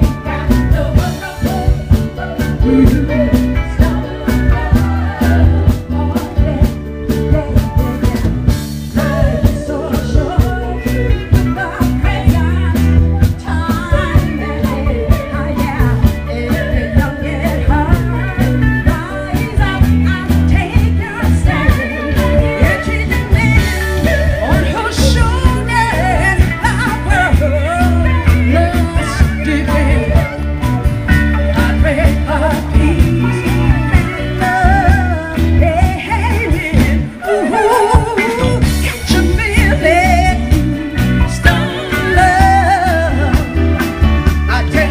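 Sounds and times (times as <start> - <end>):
women singing: 0.0 - 30.5, 31.1 - 43.8
live band playing soul music: 0.0 - 44.9
steady drum beat: 0.0 - 44.9.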